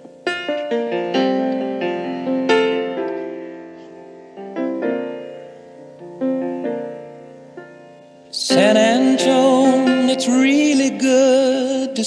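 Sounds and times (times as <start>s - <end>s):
slow piano playing: 0.0s - 12.0s.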